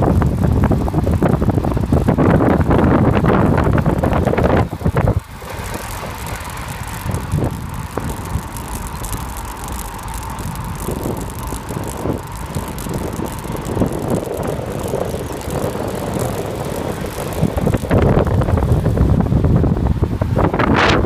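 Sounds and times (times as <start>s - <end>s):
bicycle tyres rolling on asphalt: 0.0s - 21.0s
wind rushing over microphone: 0.0s - 21.0s.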